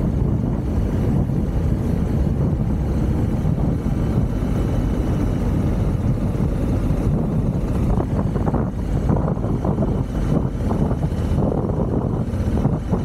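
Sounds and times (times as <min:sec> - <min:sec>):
motorcycle engine rumble: 0:00.0 - 0:13.0
road noise: 0:00.0 - 0:13.0
wind buffeting microphone: 0:00.0 - 0:13.0.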